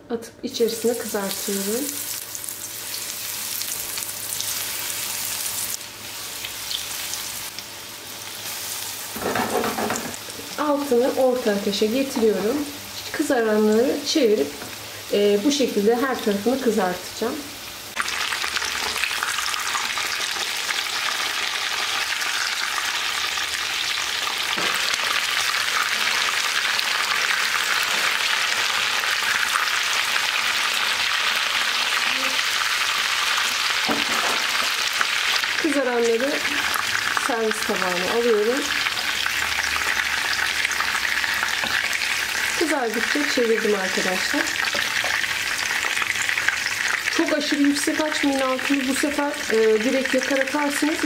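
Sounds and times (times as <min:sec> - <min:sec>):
chicken sizzling in hot oil: 0:00.6 - 0:51.0.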